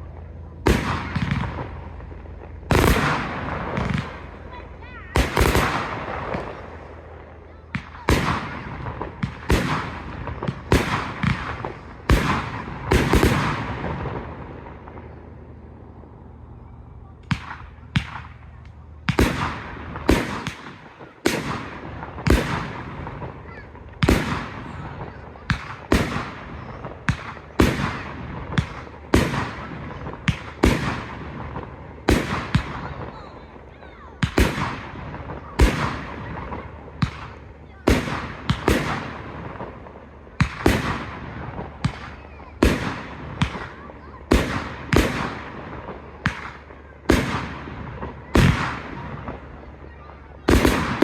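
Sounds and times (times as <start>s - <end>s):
fireworks bangs with echo: 0.0s - 51.0s.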